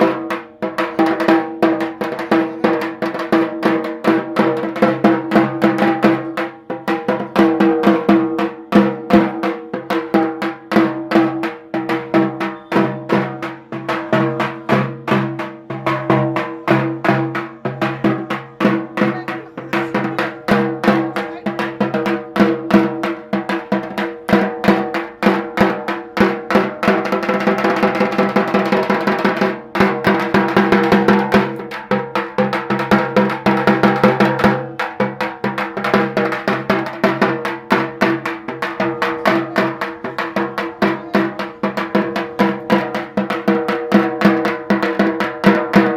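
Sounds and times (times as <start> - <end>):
barrel drum beaten with sticks: 0.0 - 45.9.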